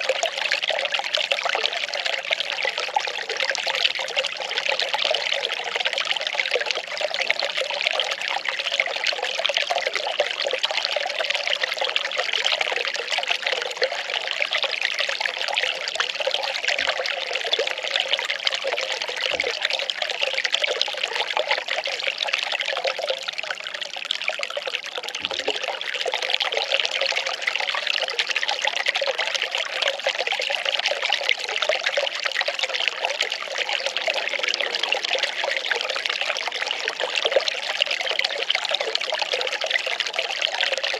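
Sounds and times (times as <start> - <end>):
water pouring and trickling: 0.0 - 40.9.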